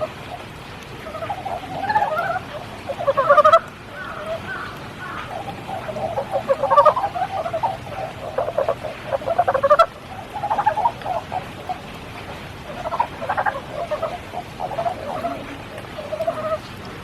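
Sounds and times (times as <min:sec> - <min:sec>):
frogs croaking: 0:00.0 - 0:17.0
rain hiss: 0:00.0 - 0:17.0.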